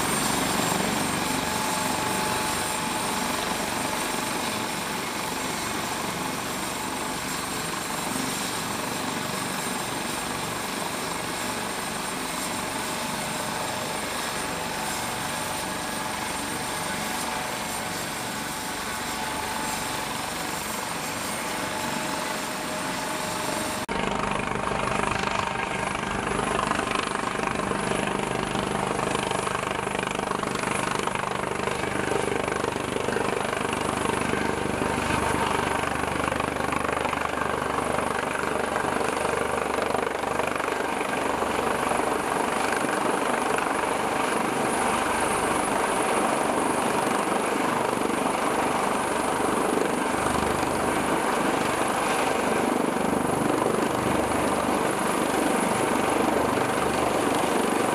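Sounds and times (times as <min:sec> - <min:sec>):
helicopter rotor noise: 0:00.0 - 0:57.9
helicopter turbine whine: 0:00.0 - 0:57.9.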